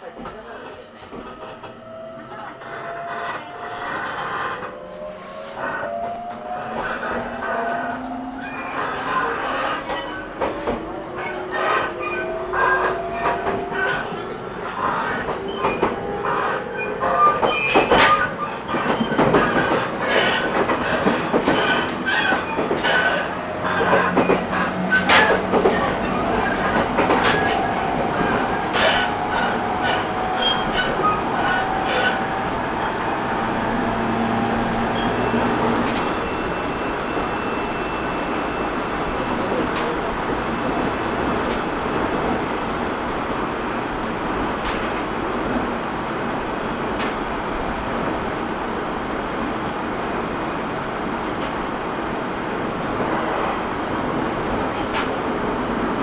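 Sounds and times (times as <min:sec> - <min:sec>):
train clicks and clatter: 0:00.0 - 0:07.9, 0:08.8 - 0:56.0
train rolling rumble: 0:00.0 - 0:56.0.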